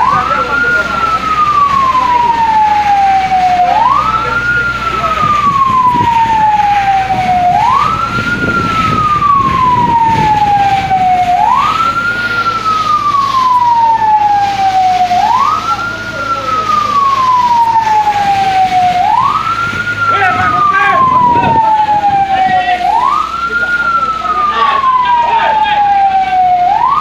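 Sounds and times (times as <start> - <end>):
fire engine siren wailing: 0.0 - 27.0.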